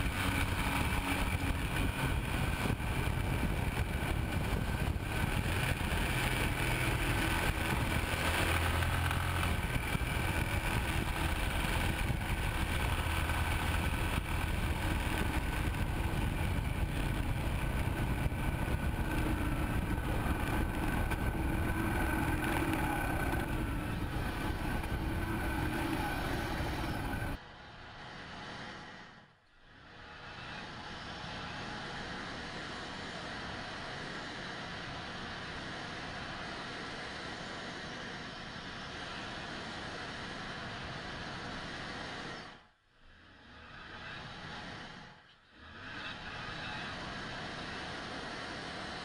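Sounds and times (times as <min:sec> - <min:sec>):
motorcycle engine drone: 0:00.0 - 0:28.4, 0:29.2 - 0:49.0
wind and road noise: 0:00.0 - 0:49.0.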